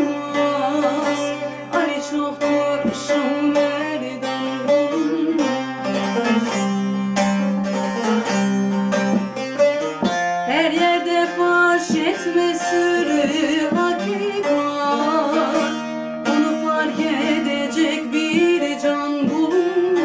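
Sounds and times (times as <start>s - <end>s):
plucked lute melody: 0.0s - 20.0s.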